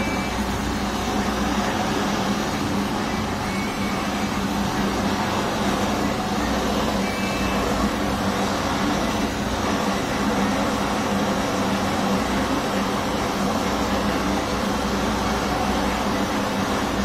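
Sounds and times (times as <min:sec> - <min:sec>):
blowtorch flame hissing: 0:00.0 - 0:17.0.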